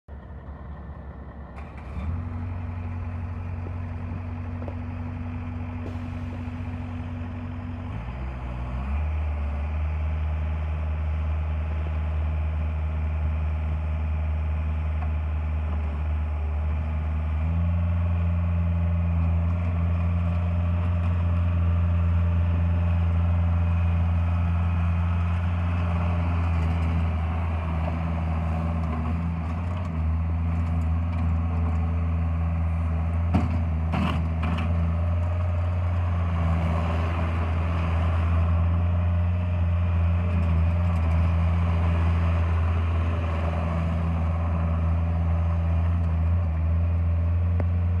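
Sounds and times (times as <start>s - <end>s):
loader diesel engine running: 0.1s - 48.0s.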